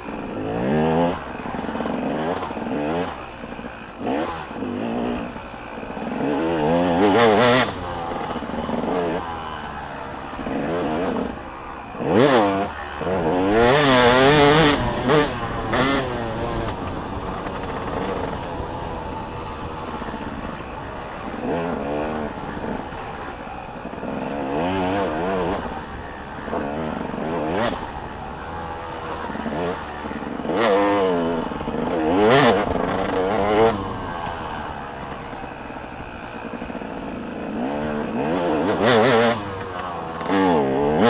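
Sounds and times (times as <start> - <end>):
motocross bikes revving past: 0.0 - 41.0.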